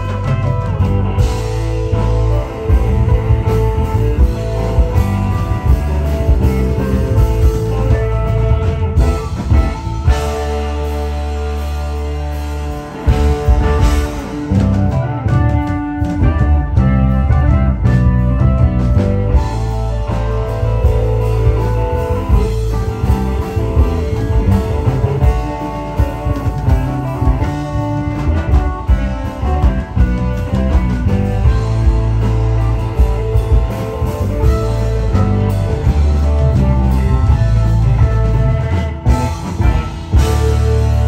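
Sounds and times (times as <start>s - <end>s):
electric guitar: 0.0s - 41.0s
rock band playing loudly: 0.0s - 41.0s.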